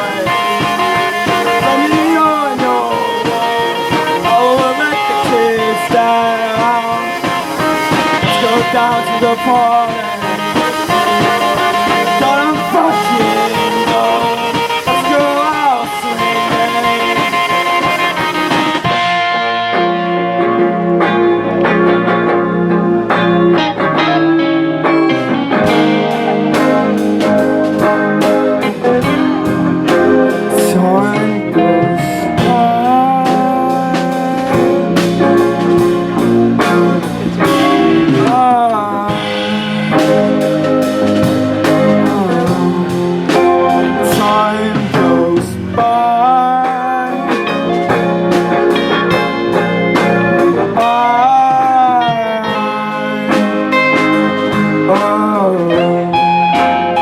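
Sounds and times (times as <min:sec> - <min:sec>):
bass: 0:00.0 - 0:57.0
drum beat: 0:00.0 - 0:57.0
lead guitar note bending: 0:00.0 - 0:57.0
rock band playing: 0:00.0 - 0:57.0.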